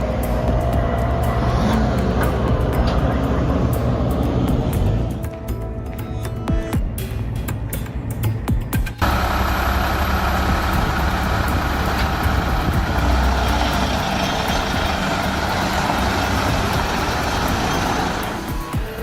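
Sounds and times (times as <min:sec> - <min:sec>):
truck engine rumbling under load: 0:00.0 - 0:05.8, 0:09.0 - 0:19.0.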